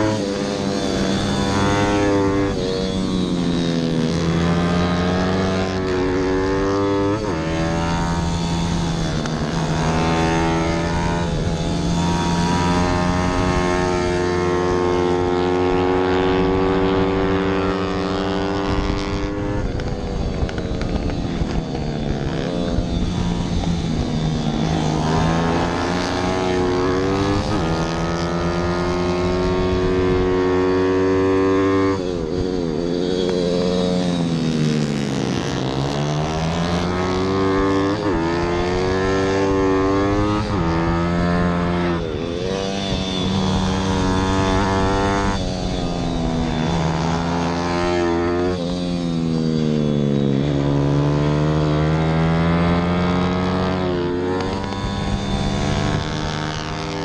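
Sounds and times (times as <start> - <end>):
wind rush: 0.0 - 50.9, 51.7 - 57.0
motorbike engine revving high: 0.0 - 57.0.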